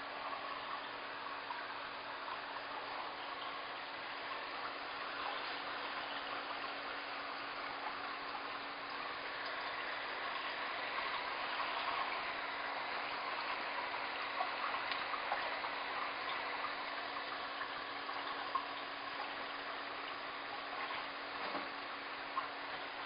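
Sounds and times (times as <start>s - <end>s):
faint steady hum: 0.0s - 23.0s
trickling water: 0.0s - 23.0s.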